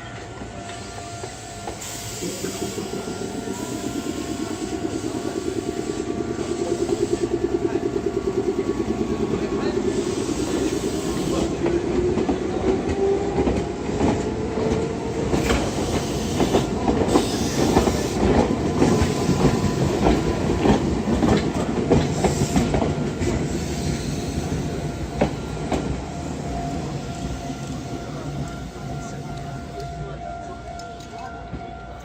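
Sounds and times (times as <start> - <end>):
train wheels clacking over rail joints: 0.2 - 26.1.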